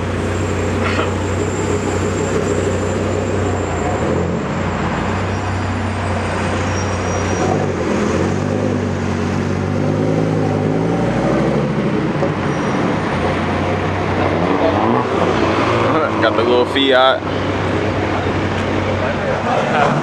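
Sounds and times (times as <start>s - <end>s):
car engines idling: 0.0s - 10.0s, 11.7s - 20.0s
car engine accelerating: 0.0s - 20.0s.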